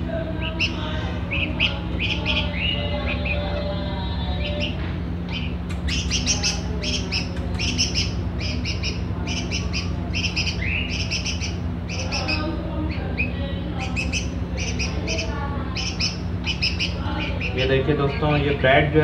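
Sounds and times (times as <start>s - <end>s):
steady low hum: 0.0s - 19.0s
bird chick chirping: 0.2s - 18.6s.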